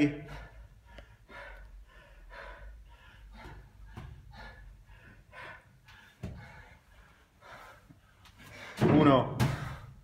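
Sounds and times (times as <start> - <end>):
man breathing hard: 0.0 - 8.8.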